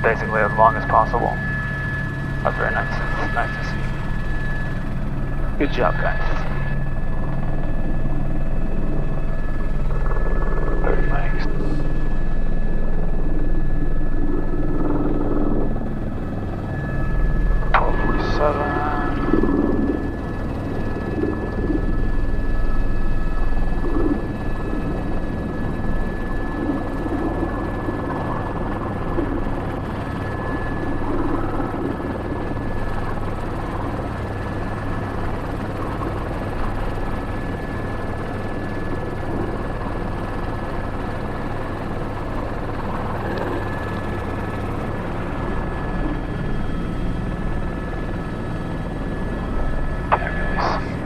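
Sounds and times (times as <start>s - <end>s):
helicopter rotor and turbine noise: 0.0s - 51.0s.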